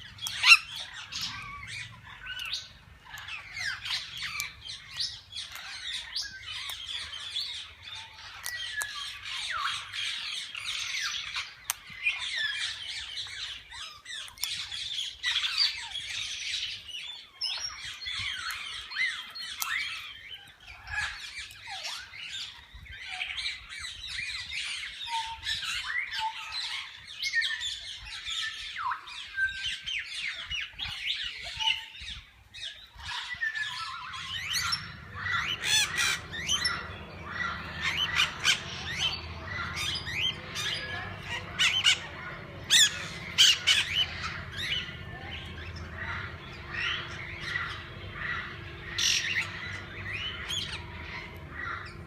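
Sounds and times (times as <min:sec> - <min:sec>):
parakeets chattering and squawking: 0:00.0 - 0:52.0.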